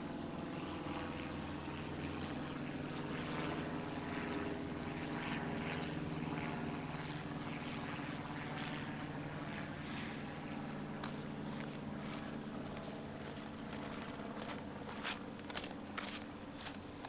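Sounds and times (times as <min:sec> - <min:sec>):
propeller airplane engine droning: 0:00.0 - 0:17.0.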